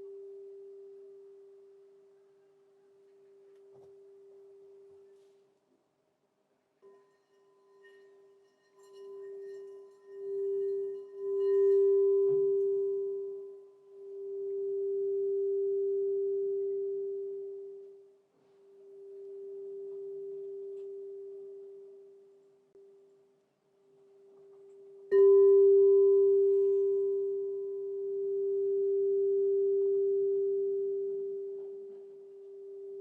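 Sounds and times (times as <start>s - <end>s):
singing bowl low tone: 0.0s - 5.2s, 6.8s - 23.2s, 24.0s - 33.0s
faint high ringing tone: 0.0s - 5.4s, 6.8s - 33.0s.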